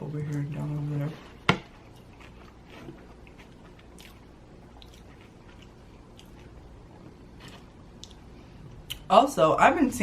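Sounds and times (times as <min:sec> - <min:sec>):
low room hum: 0:00.0 - 0:10.0
person chewing food: 0:00.3 - 0:09.1.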